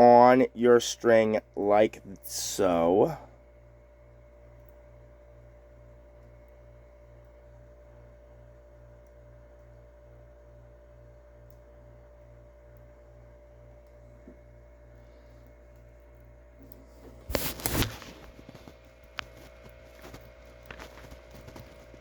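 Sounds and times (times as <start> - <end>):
faint low electrical hum: 0.0 - 22.0.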